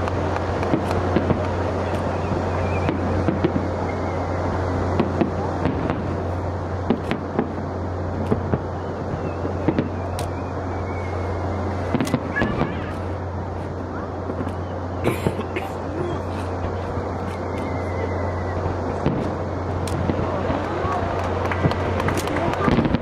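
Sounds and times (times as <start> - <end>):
fireworks bursting with bangs: 0.0 - 23.0
noisy rumble: 0.0 - 23.0
steady low hum: 0.0 - 23.0.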